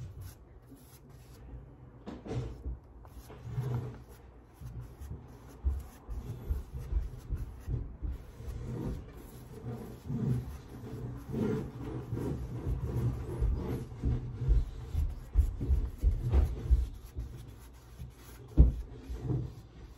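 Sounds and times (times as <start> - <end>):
brush scrubbing on paper: 0.0 - 1.5, 3.0 - 19.9.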